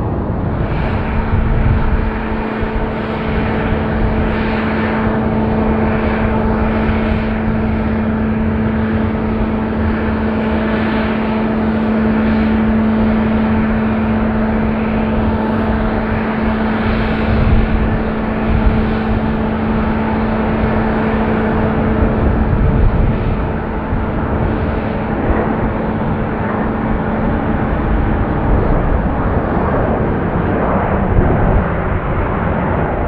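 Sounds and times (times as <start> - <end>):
jet engines droning: 0.0 - 33.0.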